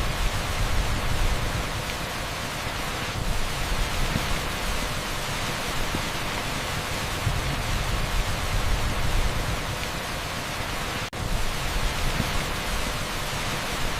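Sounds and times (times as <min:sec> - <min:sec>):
torrential rain on asphalt: 0:00.0 - 0:13.9.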